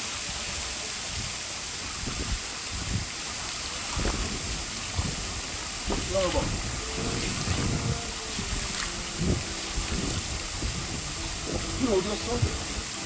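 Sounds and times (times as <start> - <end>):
low water splashes: 0.0 - 13.0
stream water running: 0.0 - 13.0.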